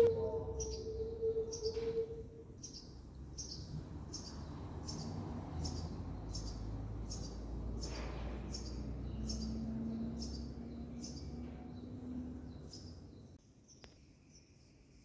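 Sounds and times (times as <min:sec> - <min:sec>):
small bird chirping: 0:00.0 - 0:14.4.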